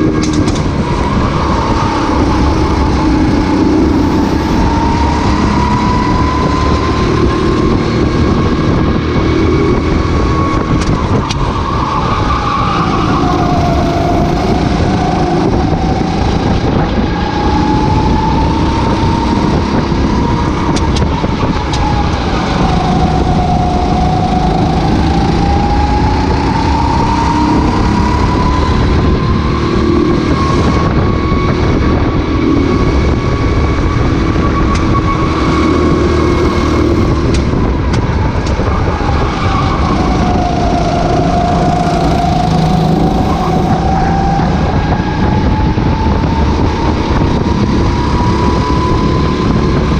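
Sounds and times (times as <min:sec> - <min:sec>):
racing kart engine revving: 0:00.0 - 0:49.9.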